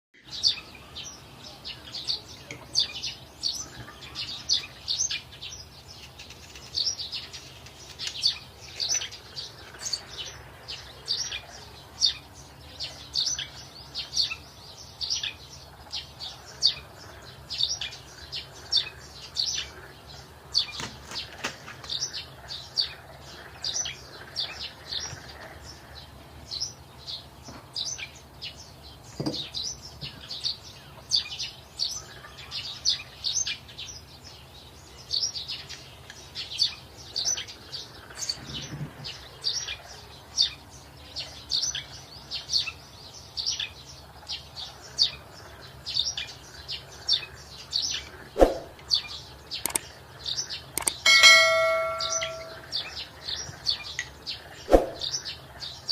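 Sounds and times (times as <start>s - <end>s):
small birds chirping: 0.2s - 55.9s.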